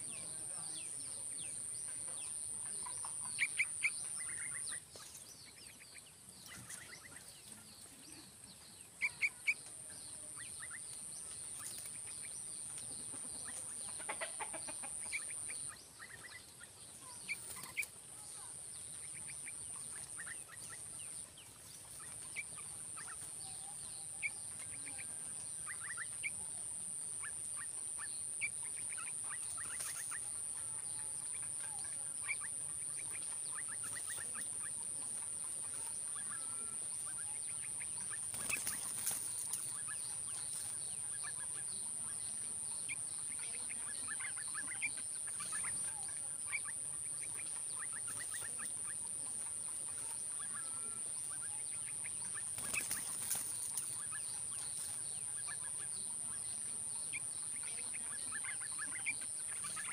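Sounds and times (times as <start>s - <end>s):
bird chirps: 0.0s - 59.9s.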